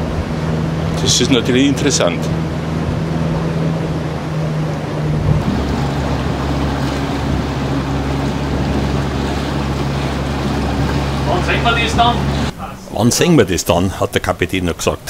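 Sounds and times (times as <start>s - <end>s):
ferry engine running: 0.0s - 14.0s
wind: 0.0s - 15.0s.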